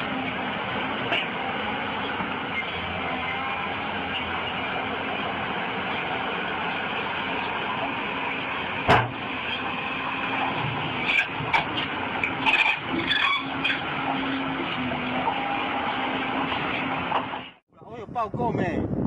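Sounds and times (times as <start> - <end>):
excavator clanking over rubble: 0.0 - 17.5
excavator engine running: 0.0 - 19.0.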